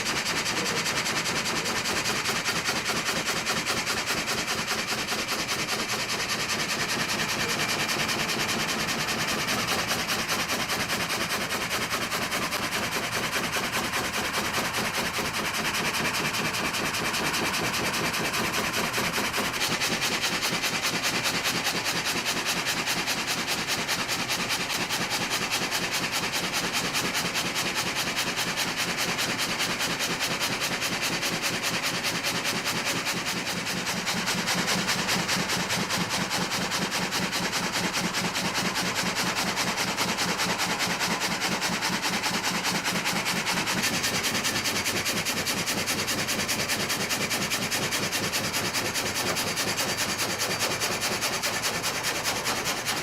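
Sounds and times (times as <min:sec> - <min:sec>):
pulsing machine noise: 0:00.0 - 0:53.0.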